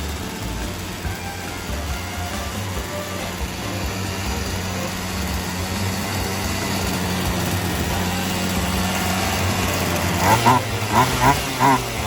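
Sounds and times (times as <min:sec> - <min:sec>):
chainsaw engine idling: 0:00.0 - 0:12.0.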